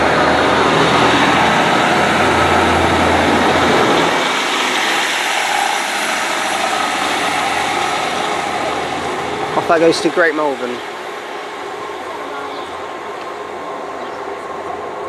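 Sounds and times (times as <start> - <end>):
diesel train engine: 0.0 - 15.0
train rumble: 0.0 - 15.0.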